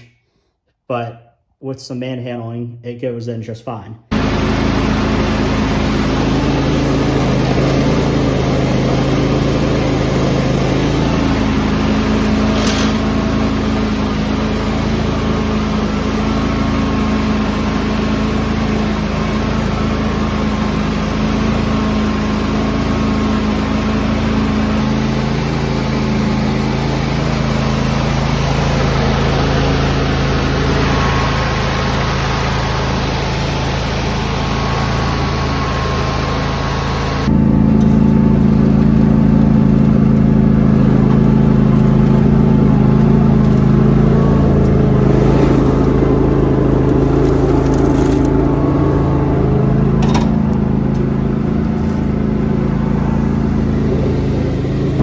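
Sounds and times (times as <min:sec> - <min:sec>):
lawn tractor engine running: 0:04.1 - 0:55.0.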